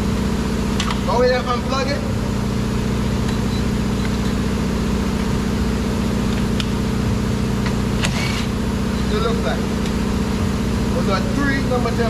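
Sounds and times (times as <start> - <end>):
engine idling hum: 0.0 - 12.0.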